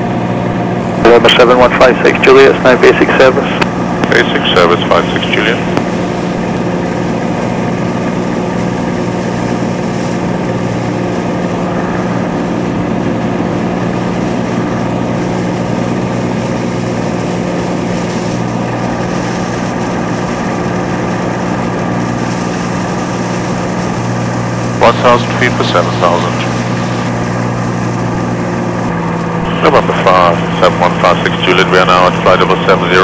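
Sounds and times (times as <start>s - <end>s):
aircraft engine and propeller droning: 0.0s - 33.0s.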